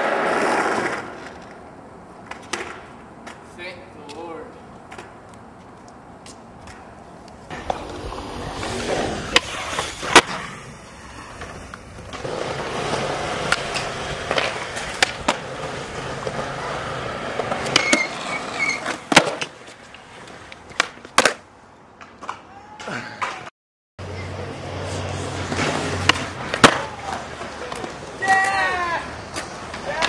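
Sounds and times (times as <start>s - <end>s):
skateboard clacking on ground: 0.0s - 23.5s, 24.1s - 30.0s
skateboard wheels rolling on concrete: 0.0s - 30.0s.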